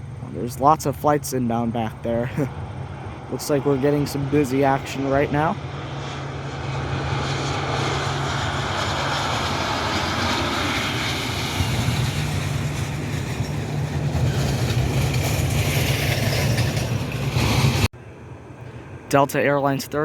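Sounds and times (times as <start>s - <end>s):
jet airliner engines rumbling: 0.0s - 20.0s.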